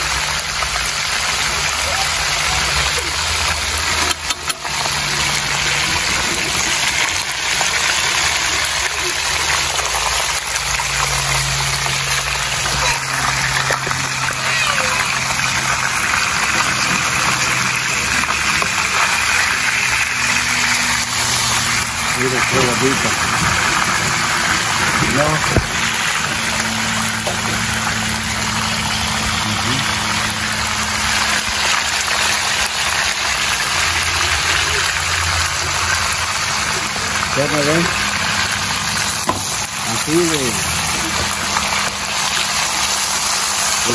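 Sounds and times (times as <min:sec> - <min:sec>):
oil sizzling around frying fish: 0:00.0 - 0:43.9.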